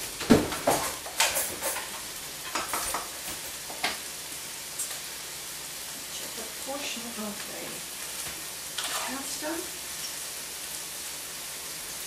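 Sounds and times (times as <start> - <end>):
pan sizzling: 0.0 - 12.0.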